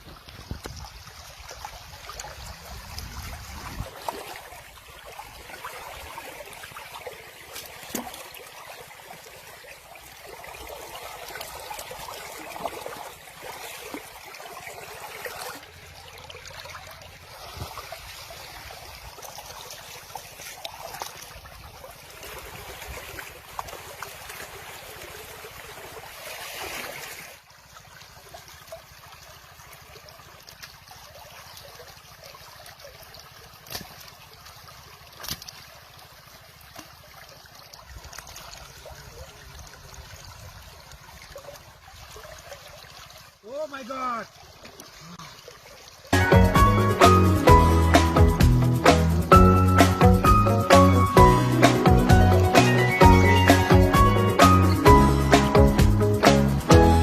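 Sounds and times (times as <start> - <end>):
river water flowing: 0.0 - 57.0
water splashes: 0.0 - 57.0.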